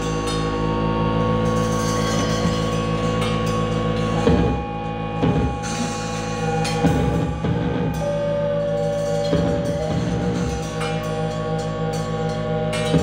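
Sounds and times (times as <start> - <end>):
pulsing low drone: 0.0 - 13.0
synthesizer held tones: 0.0 - 13.0.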